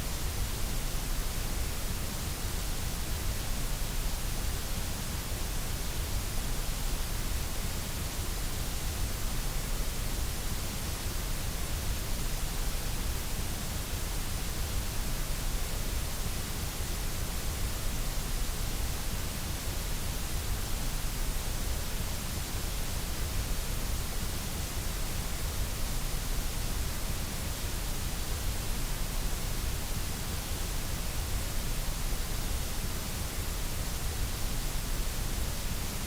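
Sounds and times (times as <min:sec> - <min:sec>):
white noise hiss: 0:00.0 - 0:36.0.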